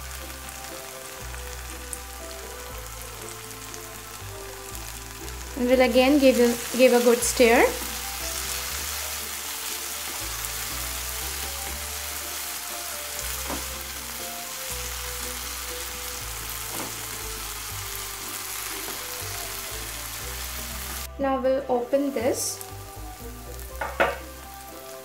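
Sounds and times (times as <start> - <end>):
masala sizzling in oil: 0.0 - 25.0.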